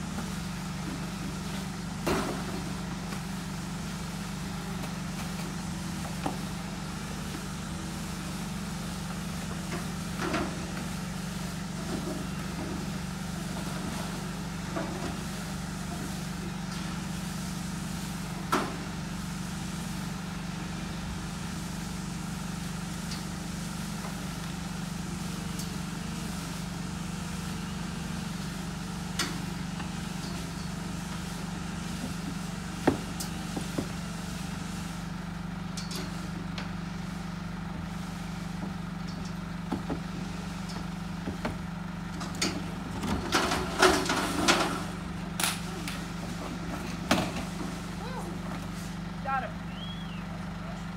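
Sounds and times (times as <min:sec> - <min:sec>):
forklift engine idling: 0:00.0 - 0:50.9.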